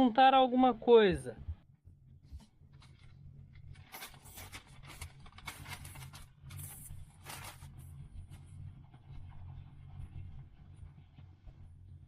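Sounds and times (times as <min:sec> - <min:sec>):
low steady rumble: 0:00.1 - 0:12.0.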